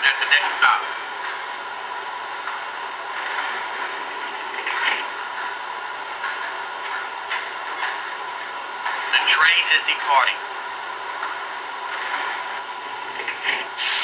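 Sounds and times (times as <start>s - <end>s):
model train running with clatter: 0.0s - 14.0s.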